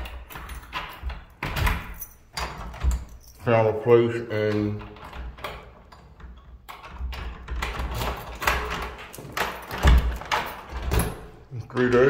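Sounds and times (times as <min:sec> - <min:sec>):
irregular thumps and knocks: 0:00.0 - 0:03.5, 0:04.4 - 0:12.0.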